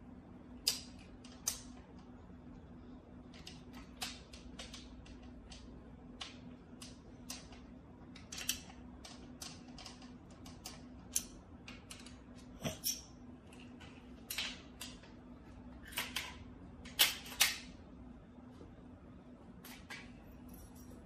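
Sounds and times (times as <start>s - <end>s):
steady faint hum: 0.0s - 21.0s.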